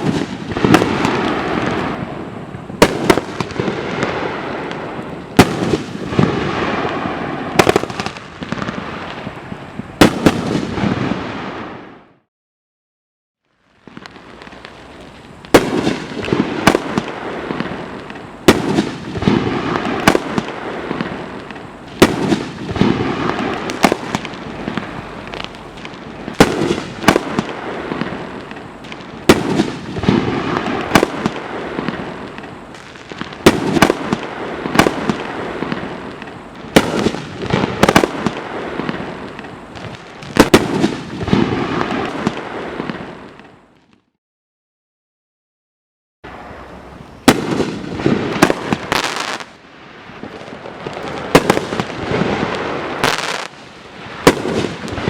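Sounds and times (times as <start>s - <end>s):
fireworks aerial bursts: 0.0s - 12.3s, 13.4s - 44.2s, 46.3s - 55.0s.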